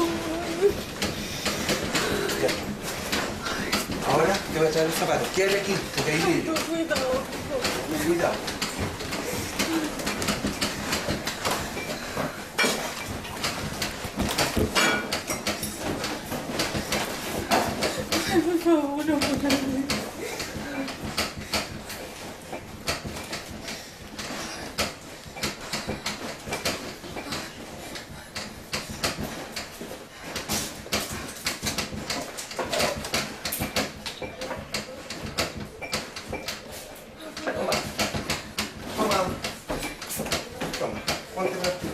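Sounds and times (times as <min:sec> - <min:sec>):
dishes rattling and clinking: 0:00.0 - 0:41.9
knocks and clatters: 0:00.0 - 0:41.9.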